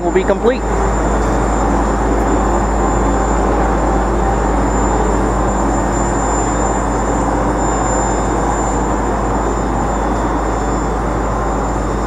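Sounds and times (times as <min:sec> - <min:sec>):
site machinery: 0:00.0 - 0:12.0
thin high whine: 0:00.0 - 0:12.0.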